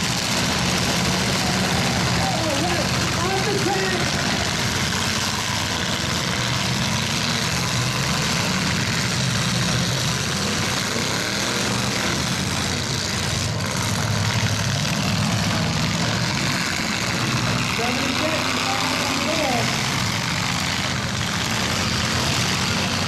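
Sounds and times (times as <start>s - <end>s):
truck engines running: 0.0s - 23.0s.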